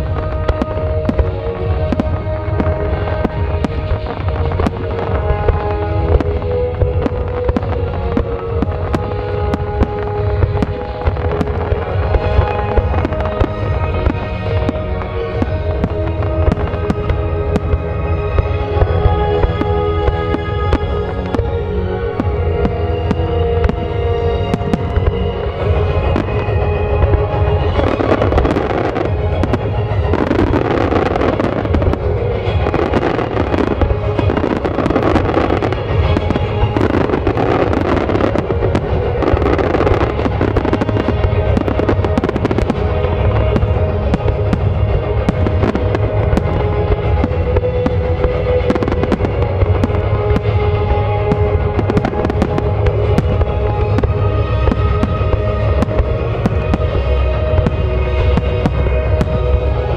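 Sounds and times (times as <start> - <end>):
fireworks bursting and crackling: 0.0 - 59.9
music playing: 0.0 - 59.9.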